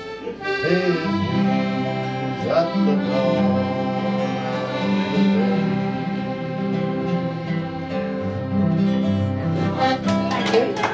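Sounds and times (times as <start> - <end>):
acoustic guitar: 0.0 - 10.9.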